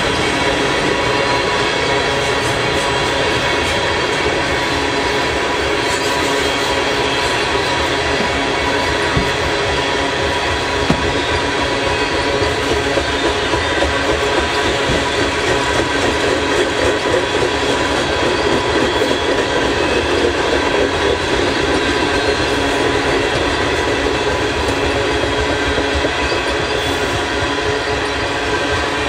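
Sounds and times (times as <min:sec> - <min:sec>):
freight train wheels on rails: 0:00.0 - 0:29.0.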